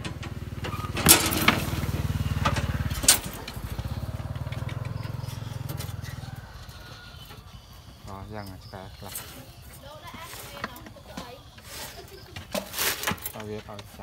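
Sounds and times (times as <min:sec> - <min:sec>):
wire cage clanking: 0:00.0 - 0:13.8
small engine idling: 0:00.0 - 0:14.0.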